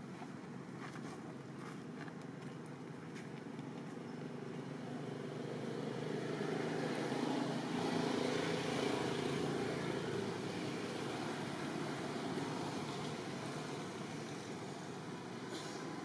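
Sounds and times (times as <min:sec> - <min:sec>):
distant engine drone: 0:00.0 - 0:16.0.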